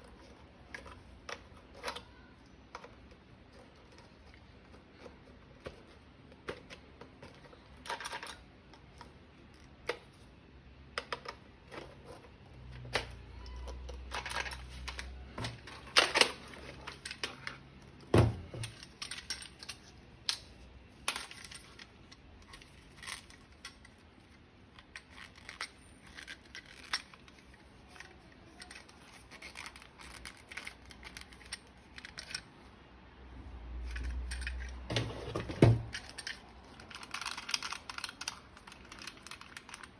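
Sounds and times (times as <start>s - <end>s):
plastic toy parts clicking: 0.7s - 10.0s, 12.8s - 17.6s, 18.6s - 32.5s, 35.9s - 39.9s.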